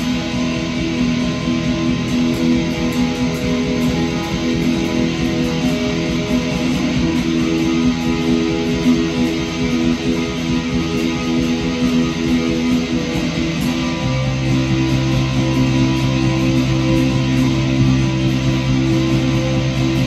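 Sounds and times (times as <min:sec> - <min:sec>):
strummed electric guitar: 0:00.0 - 0:20.0.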